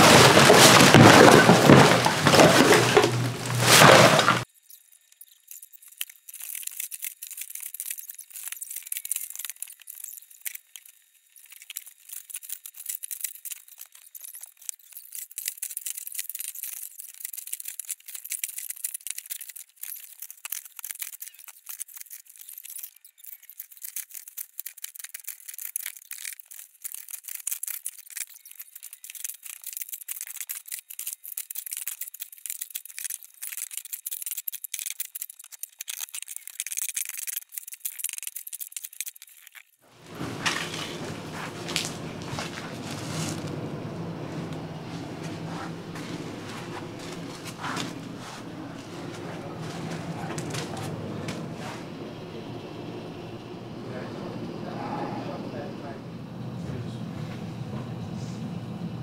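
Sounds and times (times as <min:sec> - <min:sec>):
plastic bags crinkling: 0:00.0 - 0:04.5, 0:05.5 - 0:43.8, 0:44.4 - 0:51.6.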